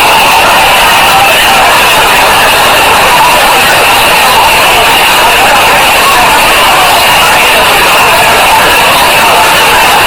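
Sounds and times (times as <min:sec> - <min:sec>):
stadium crowd roar: 0:00.0 - 0:10.0.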